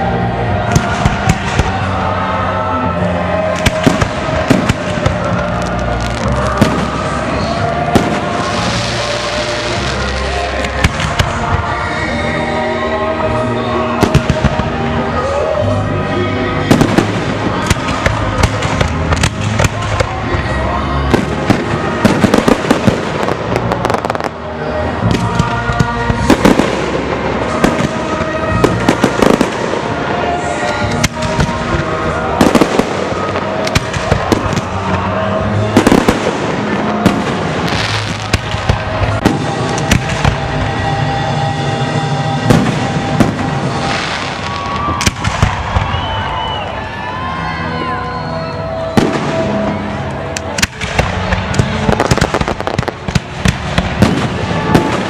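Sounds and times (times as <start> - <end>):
fireworks bursting and crackling: 0.0 - 15.6, 16.5 - 47.4, 48.2 - 55.0
music over loudspeakers: 0.0 - 55.0.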